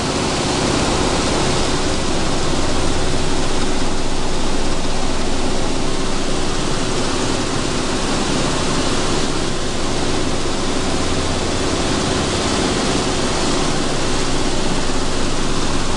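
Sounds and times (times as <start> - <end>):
low machine hum: 0.0 - 15.9.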